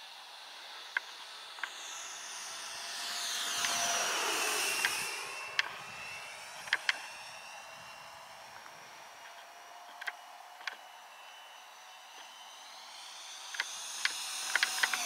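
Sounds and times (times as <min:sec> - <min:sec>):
model jet fan whine flying past: 0:00.0 - 0:15.0.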